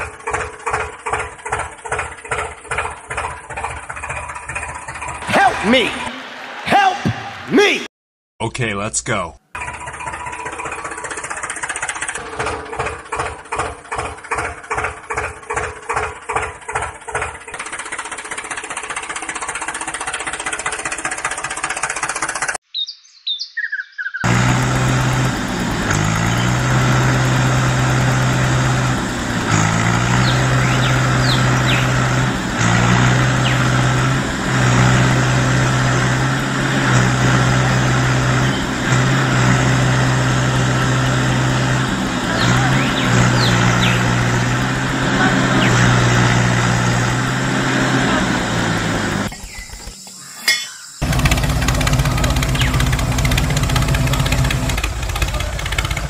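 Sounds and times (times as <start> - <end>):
tractor engine chugging: 0.0 - 6.3, 9.5 - 22.6, 24.2 - 49.9, 50.5 - 56.0.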